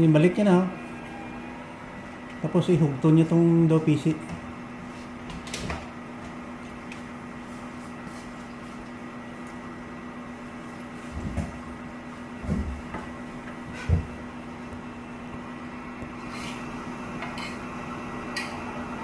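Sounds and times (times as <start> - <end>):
garbage truck humming: 0.0 - 19.0.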